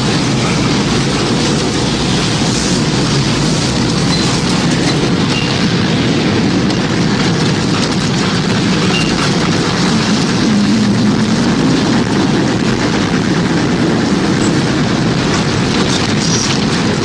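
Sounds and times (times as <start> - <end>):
low rumbling rush of wind: 0.0 - 17.0.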